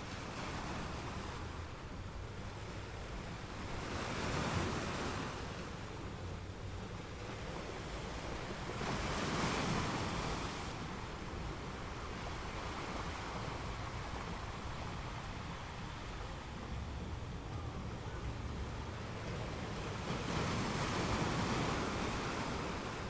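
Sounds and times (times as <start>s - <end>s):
waves breaking: 0.0s - 23.0s.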